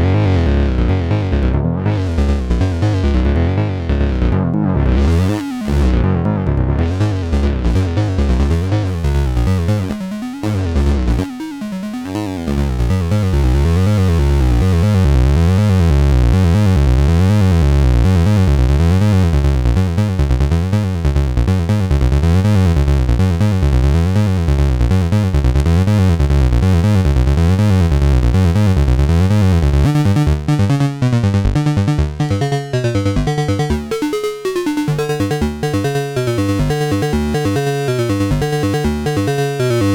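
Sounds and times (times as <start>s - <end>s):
pulsing synth bass sequence: 0.0s - 11.4s, 12.0s - 39.9s.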